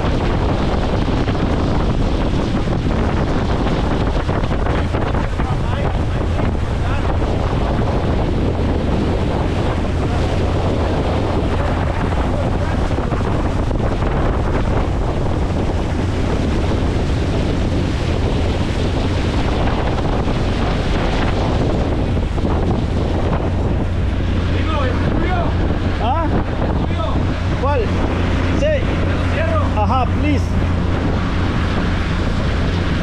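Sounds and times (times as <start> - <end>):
motorboat engine running: 0.0 - 33.0
water rushing past hull: 0.0 - 33.0
wind buffeting microphone: 0.0 - 33.0.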